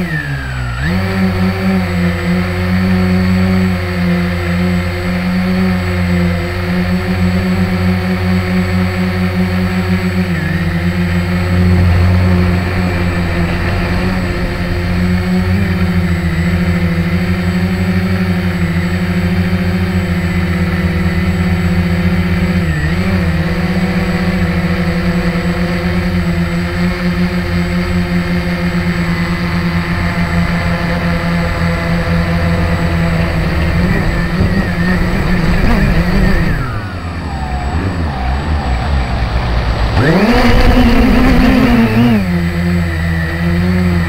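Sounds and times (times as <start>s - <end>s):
quadcopter motors humming: 0.0s - 44.0s.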